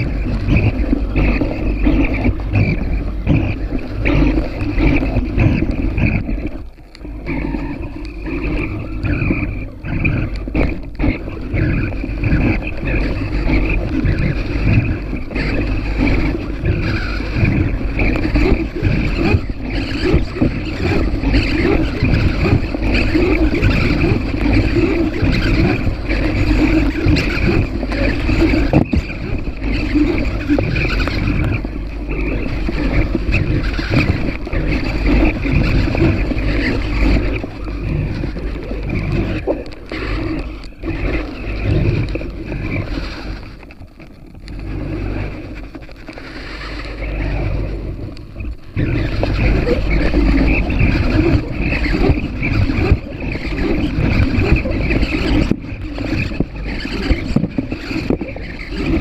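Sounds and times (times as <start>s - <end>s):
model aircraft motor and propeller: 0.0s - 59.0s
wind rushing over microphone: 0.0s - 59.0s.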